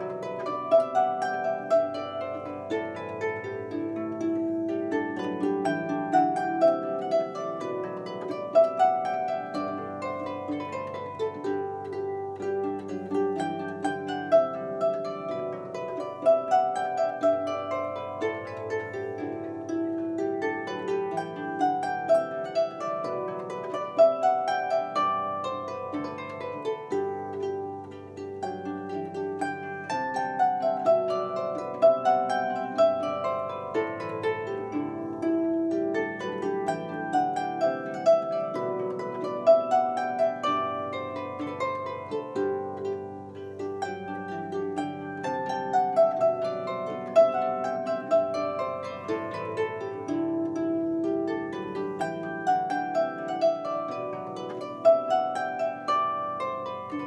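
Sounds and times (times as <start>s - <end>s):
harp playing plucked melody: 0.0s - 57.0s.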